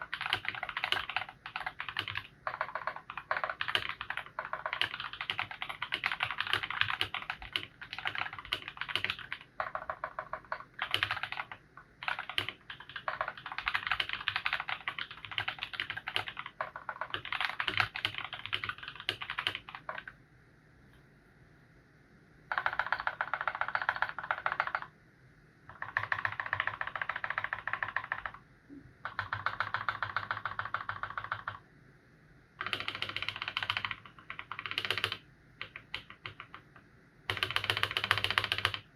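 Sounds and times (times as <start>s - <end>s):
mechanical keyboard typing: 0.0s - 20.2s, 22.5s - 24.9s, 25.7s - 28.4s, 29.0s - 31.6s, 32.6s - 38.9s.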